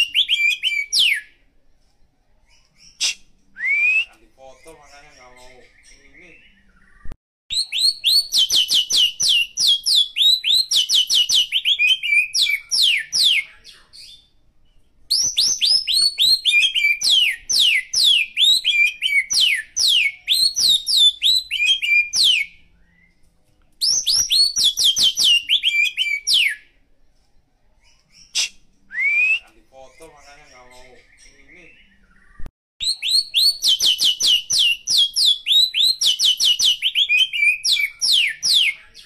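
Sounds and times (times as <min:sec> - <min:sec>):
songbird singing rapid notes: 0:02.5 - 0:23.2, 0:27.8 - 0:39.0.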